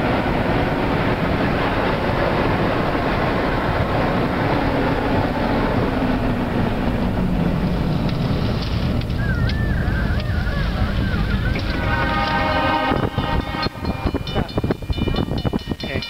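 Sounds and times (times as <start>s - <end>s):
low engine hum: 0.0s - 15.9s
tyre and engine road noise: 0.0s - 16.0s.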